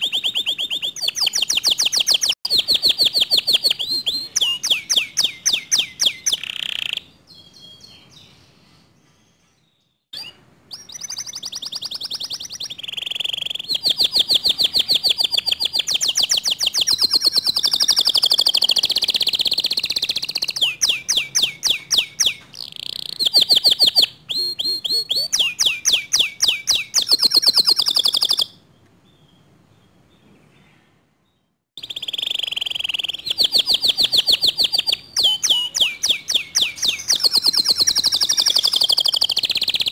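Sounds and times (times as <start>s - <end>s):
canary trilling song: 0.0s - 31.0s, 31.8s - 39.9s.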